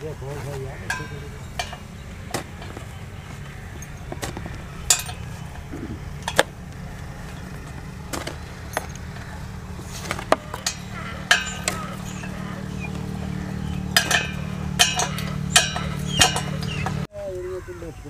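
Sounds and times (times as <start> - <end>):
steady low hum: 0.0 - 17.1
metal tools clinking on bolts: 0.3 - 17.1.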